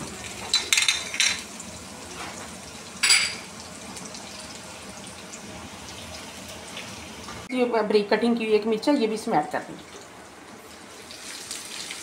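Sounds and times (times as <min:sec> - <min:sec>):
spices sizzling in hot oil: 0:00.0 - 0:07.5, 0:09.3 - 0:12.0.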